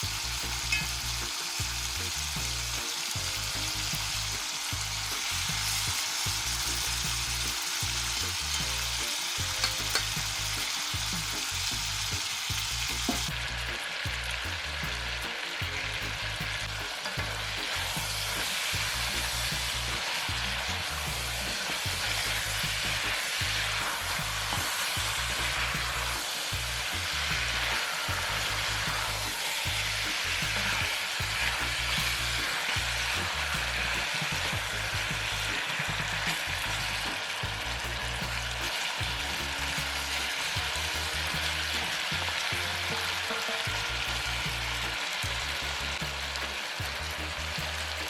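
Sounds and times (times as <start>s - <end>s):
background music: 0.0s - 48.0s
food sizzling in a pan: 0.0s - 48.0s.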